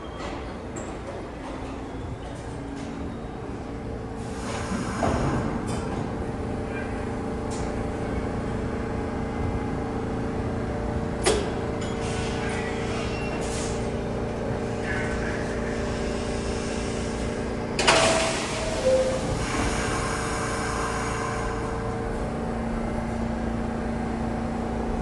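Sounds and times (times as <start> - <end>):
train electrical hum: 0.0 - 25.0.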